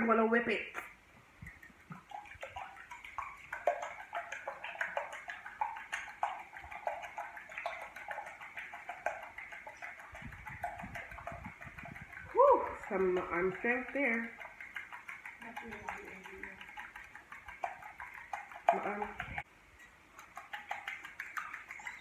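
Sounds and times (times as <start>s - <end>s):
whisk beating in glass bowl: 1.4s - 19.5s, 20.2s - 22.0s.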